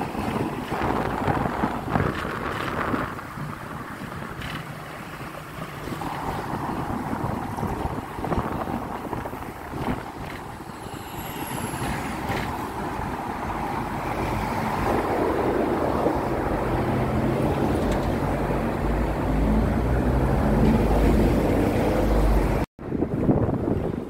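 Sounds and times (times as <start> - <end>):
road traffic: 0.0 - 24.0
tram rumbling on tracks: 0.0 - 24.0.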